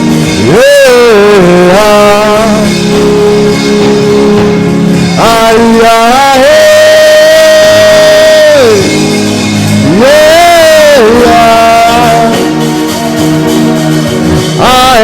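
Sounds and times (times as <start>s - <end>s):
sustained instrumental accompaniment: 0.0s - 15.0s.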